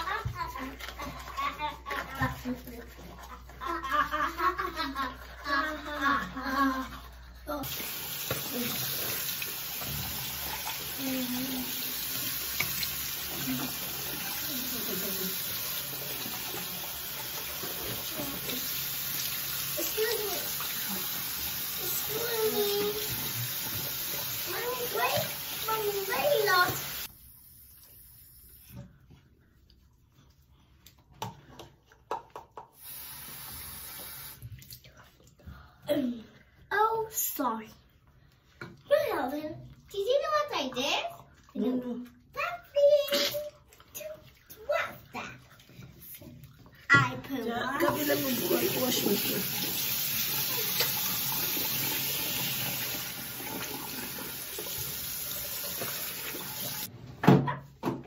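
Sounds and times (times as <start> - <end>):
tap water running: 0.0 - 29.2, 30.9 - 56.9.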